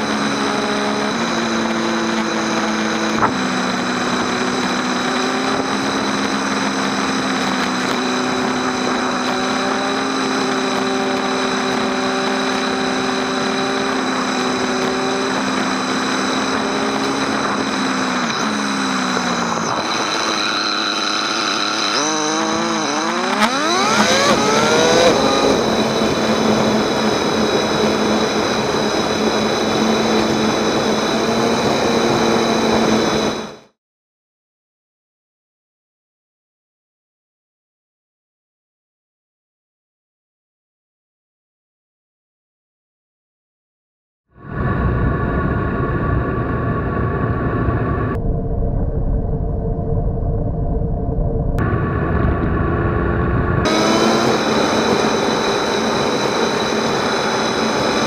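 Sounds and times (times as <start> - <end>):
wind noise: 0.0 - 33.6, 44.4 - 58.0
motorcycle engine: 0.0 - 33.8, 44.4 - 58.0.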